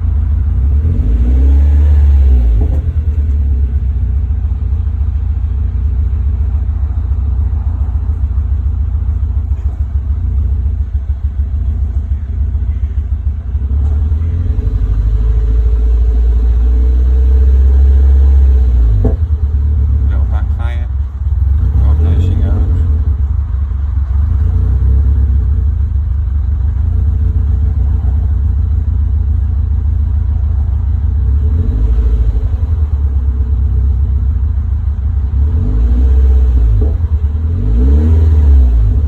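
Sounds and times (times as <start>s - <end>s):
car engine idling roughly: 0.0s - 0.9s, 2.5s - 16.8s, 18.2s - 31.7s, 32.4s - 35.6s.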